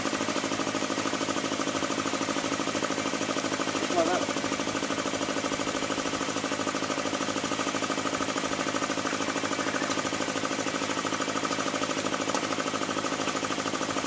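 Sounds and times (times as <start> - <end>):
air compressor pulsing: 0.0 - 14.0.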